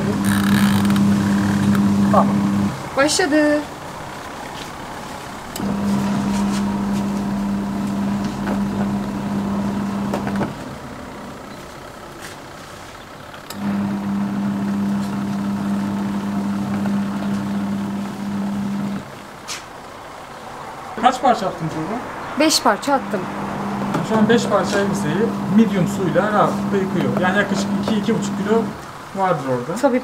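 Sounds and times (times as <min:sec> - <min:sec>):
washing machine motor humming: 0:00.0 - 0:19.4, 0:22.4 - 0:29.4.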